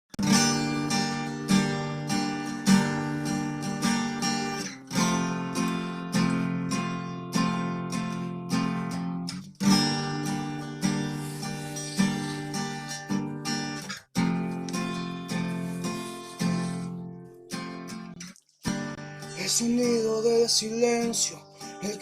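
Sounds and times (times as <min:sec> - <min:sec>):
acoustic guitar strumming: 0:00.1 - 0:22.0.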